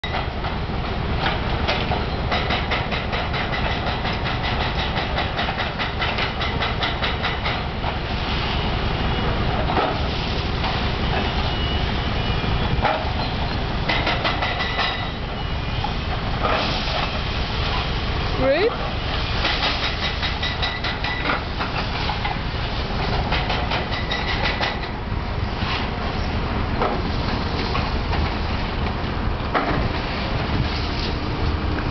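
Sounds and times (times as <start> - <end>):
heavy machinery engine rumble: 0.0 - 31.9.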